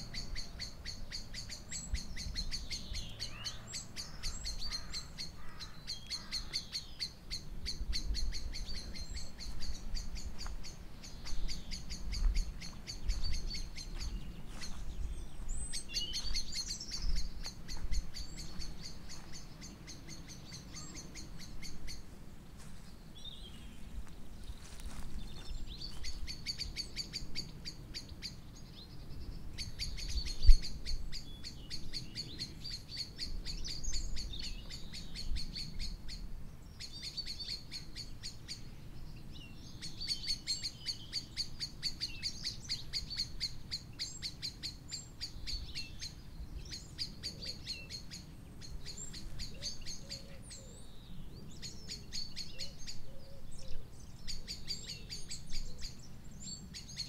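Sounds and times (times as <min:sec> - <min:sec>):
bird chirping: 0:00.0 - 0:22.1, 0:22.8 - 0:57.0.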